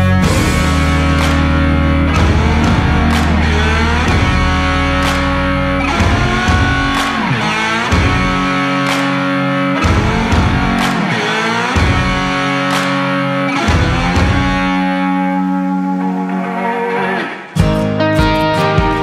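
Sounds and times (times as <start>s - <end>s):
steady drum beat: 0.0s - 14.9s, 17.6s - 19.0s
rock guitar: 0.0s - 19.0s.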